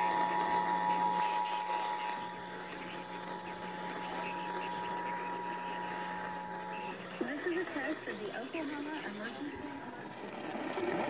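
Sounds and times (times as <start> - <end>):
low hum: 0.0 - 11.0
radio static: 0.1 - 10.2.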